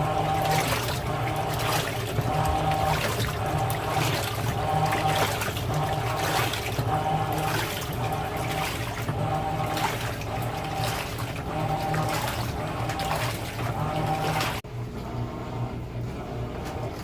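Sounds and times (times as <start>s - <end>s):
water sloshing: 0.0s - 14.6s
washing machine motor whining: 0.0s - 17.0s.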